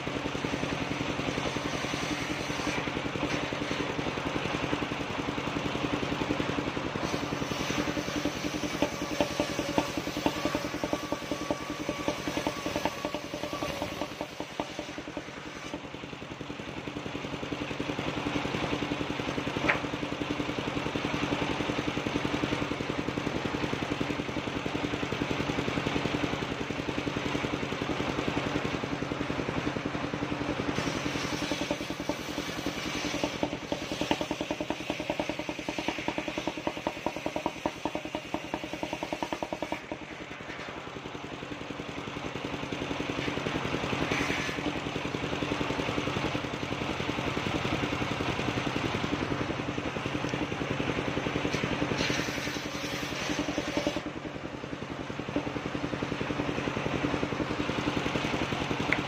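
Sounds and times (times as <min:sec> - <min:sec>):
circular sawmill cutting planks: 0:00.0 - 0:59.0.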